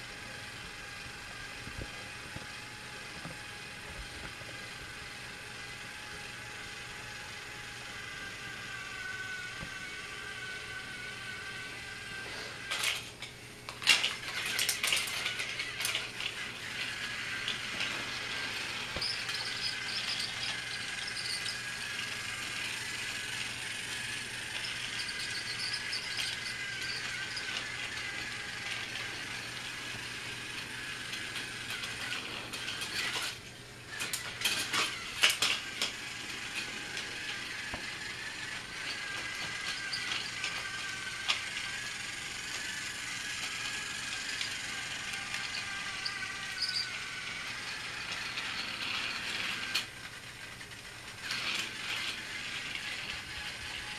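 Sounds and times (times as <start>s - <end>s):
toy train gear motor whirring: 0.0s - 53.9s.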